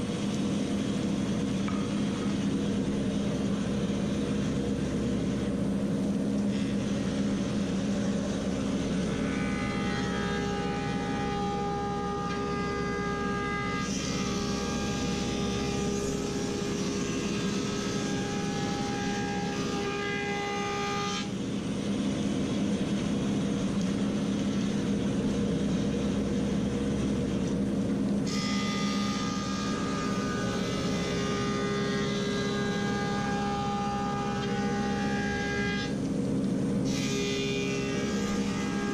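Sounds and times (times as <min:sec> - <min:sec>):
planer cutting boards whine: 0:00.0 - 0:36.1, 0:36.8 - 0:38.9
planer motor hum: 0:00.0 - 0:38.9.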